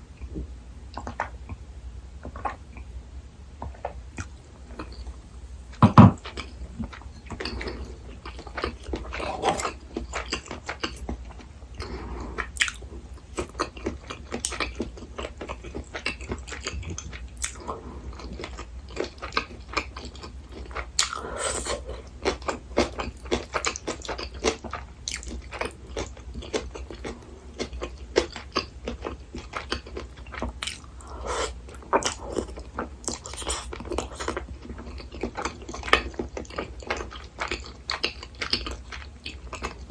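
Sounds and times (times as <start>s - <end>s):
chewing and biting: 6.2s - 39.9s.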